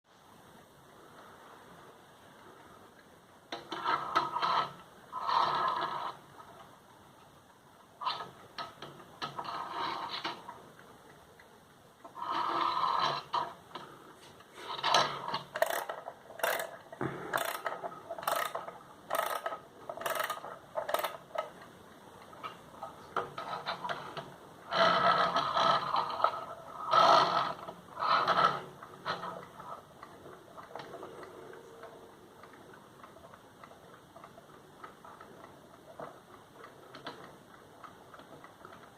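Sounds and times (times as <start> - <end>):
alarm clock ratchet winding: 3.5 - 6.7, 8.0 - 10.6, 12.0 - 13.9, 14.6 - 38.9.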